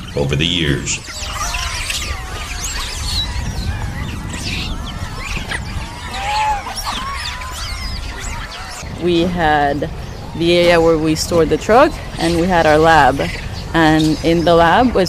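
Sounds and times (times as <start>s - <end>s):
monkeys squealing: 0.0s - 15.0s.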